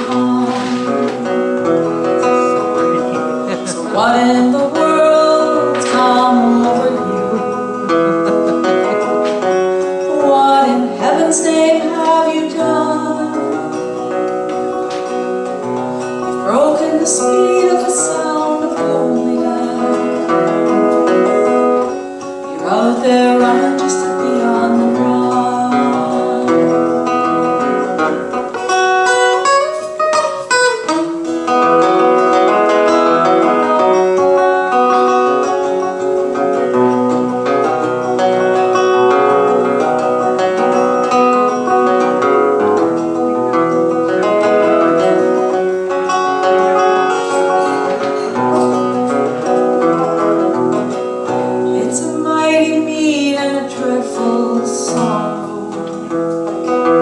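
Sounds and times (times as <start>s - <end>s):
acoustic guitar strumming: 0.0s - 57.0s
plucked string melody: 0.0s - 57.0s.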